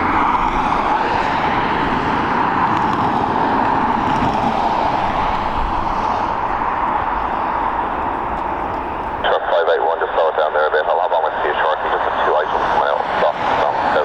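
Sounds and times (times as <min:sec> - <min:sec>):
jet engine noise: 0:00.0 - 0:14.0.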